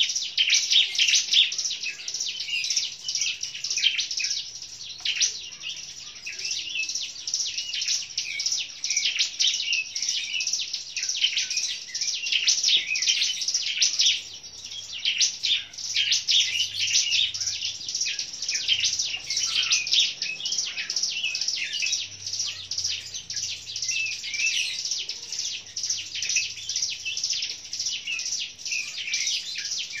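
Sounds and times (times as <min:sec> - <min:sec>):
bird chirping and trilling: 0:00.0 - 0:30.0.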